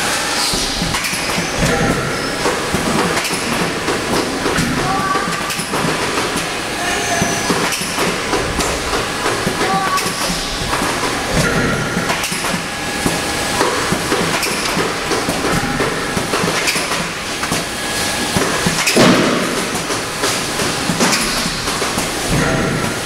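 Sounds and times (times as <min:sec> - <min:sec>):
conveyor belts clattering: 0:00.0 - 0:23.0
machine clicks and knocks: 0:00.5 - 0:23.0.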